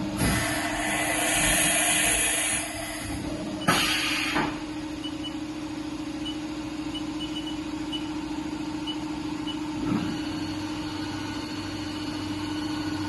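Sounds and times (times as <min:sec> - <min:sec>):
machining center humming: 0:00.0 - 0:13.0.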